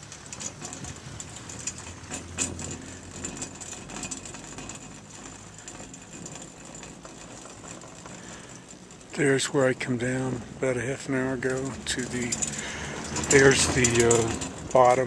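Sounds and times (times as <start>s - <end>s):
chairlift cable rumble: 0.0s - 15.0s
clicks and rattles: 0.0s - 15.0s.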